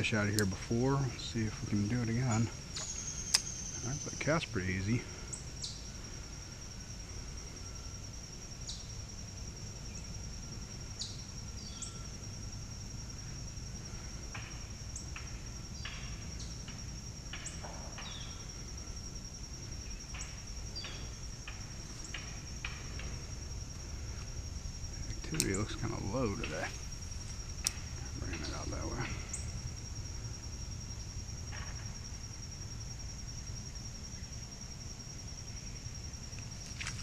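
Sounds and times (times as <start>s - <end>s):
high-pitched insect drone: 0.0s - 37.0s
low outdoor rumble: 0.0s - 37.0s.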